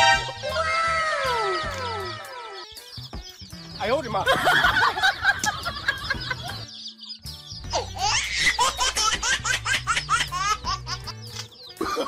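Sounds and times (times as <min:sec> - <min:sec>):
chicks peeping: 0:00.0 - 0:11.9
background music: 0:00.0 - 0:12.0.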